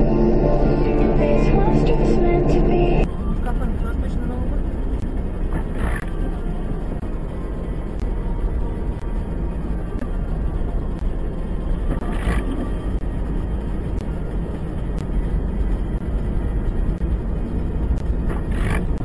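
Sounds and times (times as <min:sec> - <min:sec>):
car driving on snowy road: 0:02.6 - 0:19.0.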